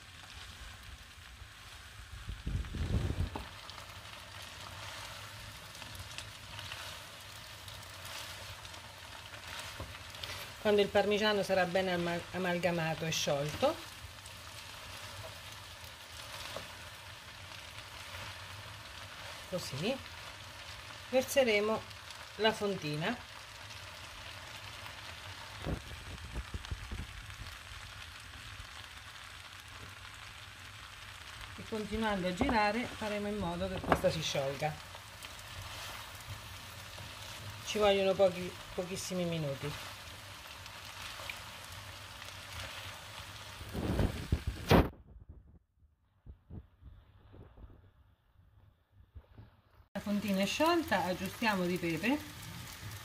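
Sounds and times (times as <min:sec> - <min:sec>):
food sizzling in a frying pan: 0:00.0 - 0:44.9, 0:50.0 - 0:53.0.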